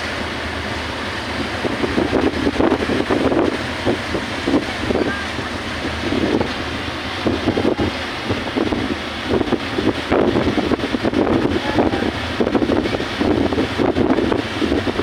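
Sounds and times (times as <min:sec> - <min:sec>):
ferry rumble: 0:00.0 - 0:15.0
water churning: 0:00.0 - 0:15.0
wind buffeting microphone: 0:00.0 - 0:15.0.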